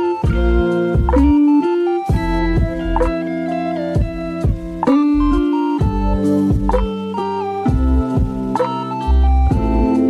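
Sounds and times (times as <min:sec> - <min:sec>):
plucked string music with bass: 0:00.0 - 0:10.0.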